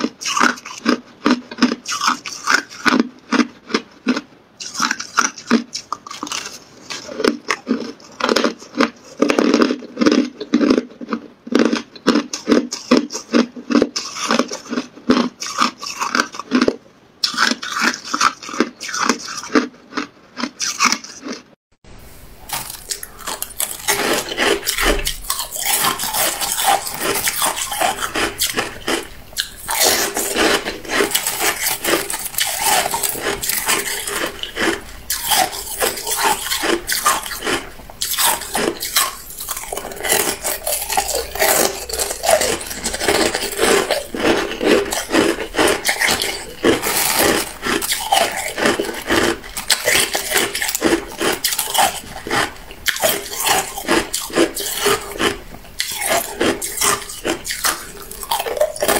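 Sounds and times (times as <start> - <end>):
ice crunching while chewed: 0.0 - 21.6, 22.4 - 58.9.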